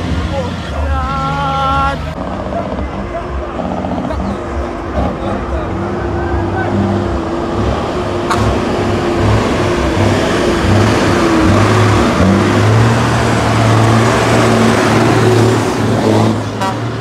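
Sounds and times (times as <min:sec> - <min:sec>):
truck engine passing: 0:00.0 - 0:17.0.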